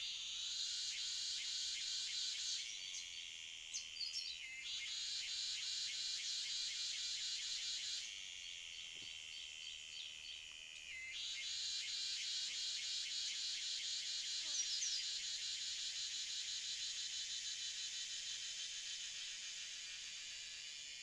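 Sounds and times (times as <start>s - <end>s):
insect chorus pulsing: 0.0s - 21.0s.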